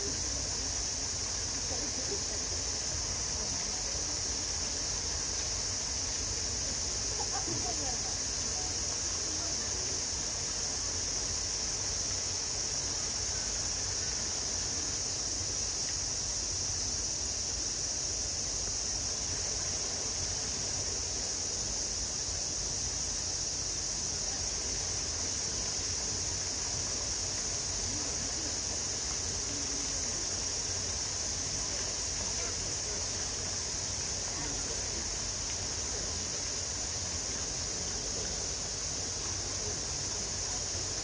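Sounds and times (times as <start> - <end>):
cicadas droning: 0.0 - 41.0.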